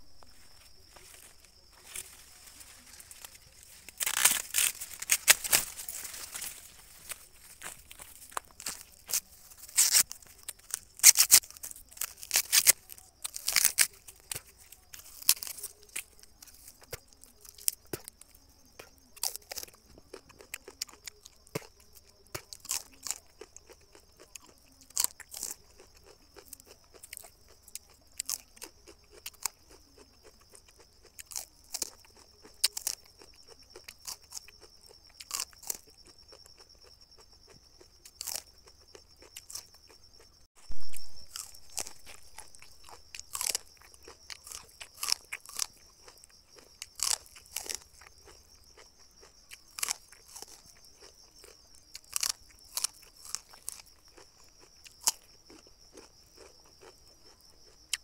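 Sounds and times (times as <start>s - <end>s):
popcorn crunching chewing: 0.0s - 58.0s.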